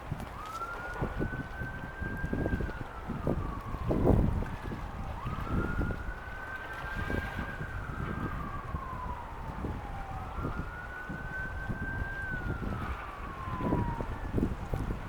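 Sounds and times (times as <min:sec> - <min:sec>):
wind on microphone: 0:00.0 - 0:15.0
siren wailing: 0:00.1 - 0:15.0.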